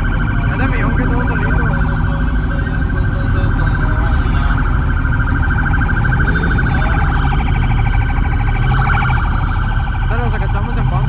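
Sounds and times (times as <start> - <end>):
heavy low rumble: 0.0 - 11.0
siren warbling: 0.0 - 11.0.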